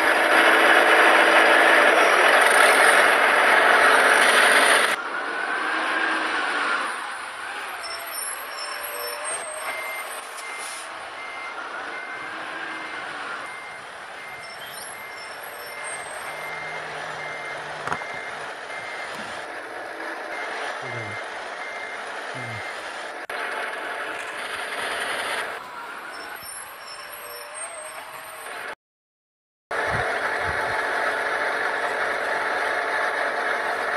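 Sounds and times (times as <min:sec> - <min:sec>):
truck reversing alarm beeping: 0:00.0 - 0:28.8.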